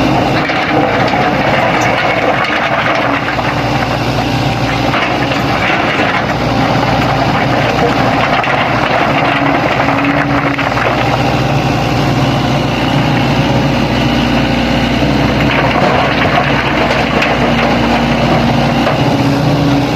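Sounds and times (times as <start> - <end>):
heavy diesel engine running: 0.0 - 19.9.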